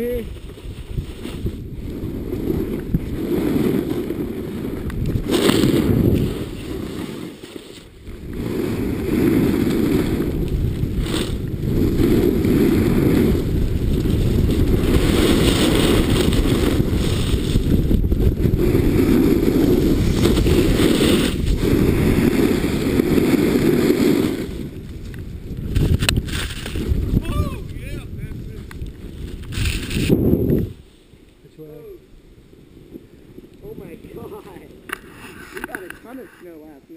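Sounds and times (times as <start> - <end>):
snowboard scraping through powder snow: 0.0 - 36.8.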